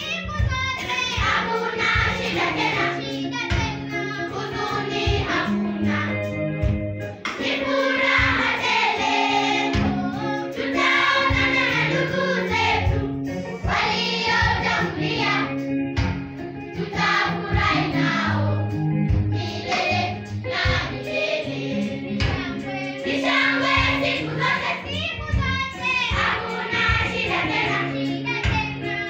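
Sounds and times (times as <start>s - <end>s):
instrumental backing with steady beat: 0.0s - 29.0s
children's choir singing: 1.1s - 6.2s, 7.3s - 15.6s, 16.8s - 18.6s, 19.4s - 25.0s, 25.8s - 29.0s.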